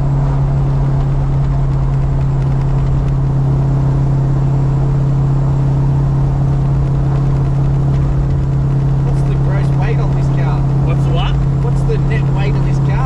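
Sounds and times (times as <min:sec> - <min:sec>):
car engine cruising: 0:00.0 - 0:13.0
road rumble: 0:00.0 - 0:13.0.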